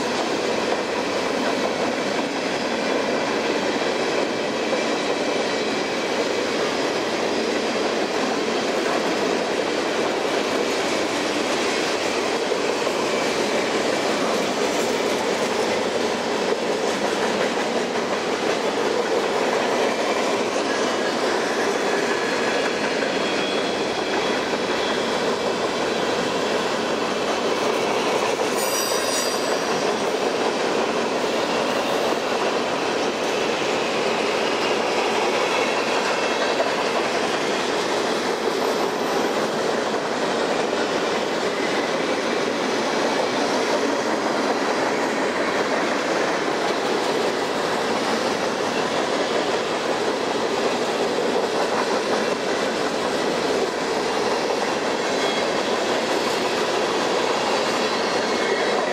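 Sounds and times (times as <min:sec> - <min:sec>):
steel wheels rolling on rails: 0:00.0 - 0:58.9.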